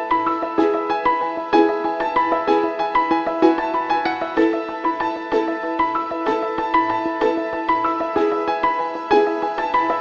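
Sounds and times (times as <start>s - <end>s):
gentle piano instrumental: 0.0s - 10.0s.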